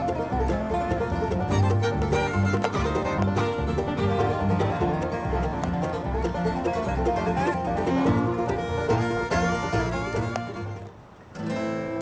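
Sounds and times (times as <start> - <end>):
bluegrass banjo and guitar music: 0.0 - 12.0.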